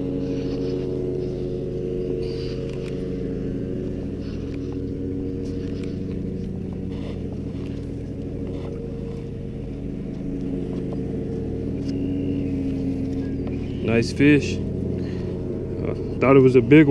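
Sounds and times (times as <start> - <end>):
motor hum: 0.0 - 16.9.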